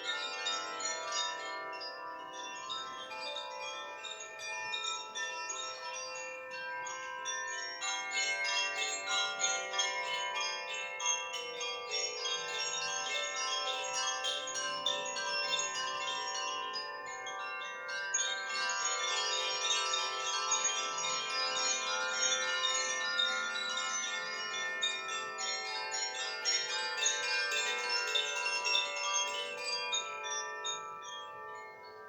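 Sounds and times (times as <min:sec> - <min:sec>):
chimes tinkling: 0:00.0 - 0:32.0.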